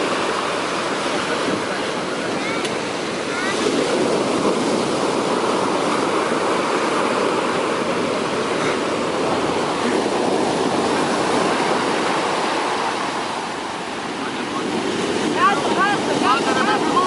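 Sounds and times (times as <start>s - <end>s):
large waves breaking on beach: 0.0s - 17.0s.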